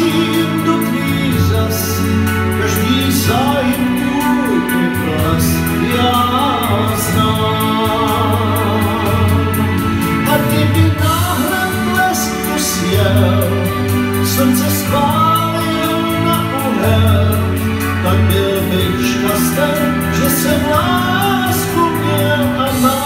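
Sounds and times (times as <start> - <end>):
pop backing track over speaker: 0.0 - 23.0.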